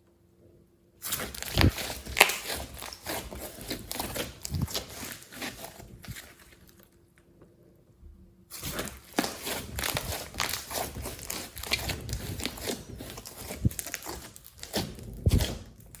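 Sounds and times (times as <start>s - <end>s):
hands kneading sticky slime: 1.0s - 6.8s, 8.5s - 16.0s
slime squelches: 1.0s - 6.9s, 8.5s - 16.0s.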